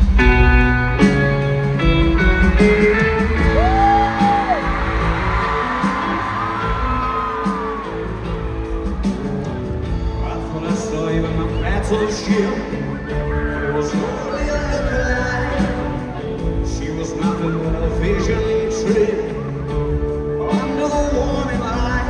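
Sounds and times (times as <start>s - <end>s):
electric guitar chords: 0.0s - 22.0s
live rock band playing: 0.0s - 22.0s.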